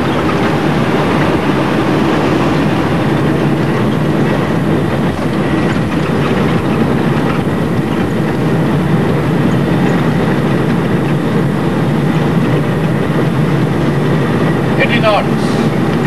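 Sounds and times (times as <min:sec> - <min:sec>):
jet engine noise: 0:00.0 - 0:16.0
wheels rumbling on runway: 0:00.0 - 0:16.0.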